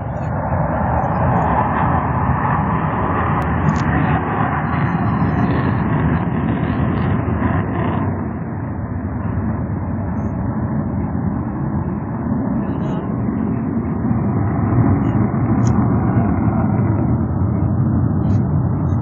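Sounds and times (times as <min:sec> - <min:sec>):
aircraft flying overhead: 0:00.0 - 0:19.0.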